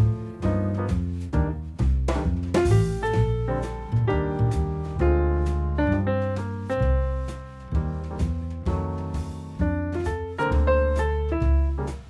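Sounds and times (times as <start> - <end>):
soft jazz music: 0.0 - 12.0.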